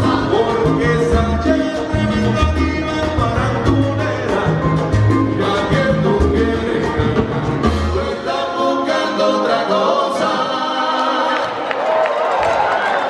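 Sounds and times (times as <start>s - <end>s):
bass: 0.0s - 11.0s
men singing in harmony: 0.0s - 11.6s
percussion: 0.0s - 12.8s.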